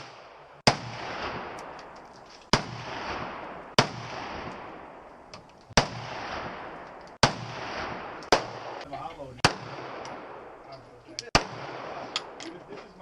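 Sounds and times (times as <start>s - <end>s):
gunshots with echo: 0.0s - 1.8s, 2.5s - 5.0s, 5.7s - 10.6s, 11.3s - 12.6s.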